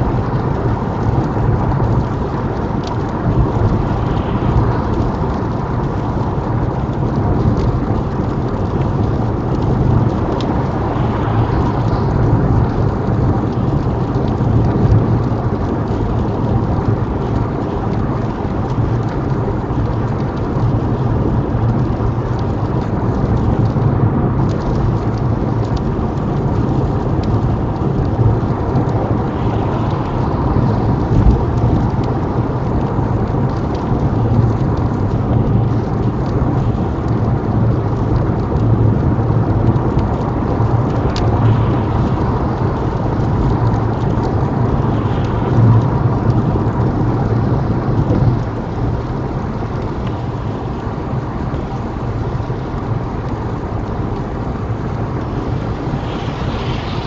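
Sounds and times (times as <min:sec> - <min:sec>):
rain hitting windscreen: 0:00.0 - 0:57.0
road and tyre rumble: 0:00.0 - 0:57.0.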